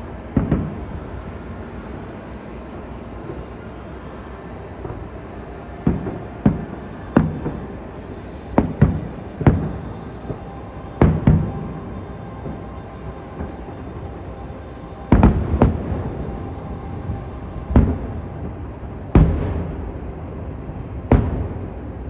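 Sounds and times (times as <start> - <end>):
crickets chirring: 0.0 - 22.0
distant fireworks booming: 0.0 - 22.0.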